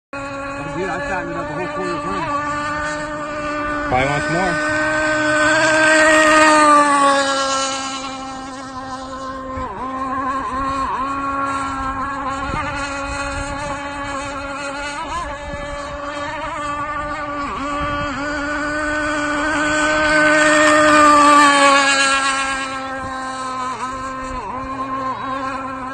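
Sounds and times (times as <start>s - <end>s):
boat engine high buzz: 0.1s - 25.9s.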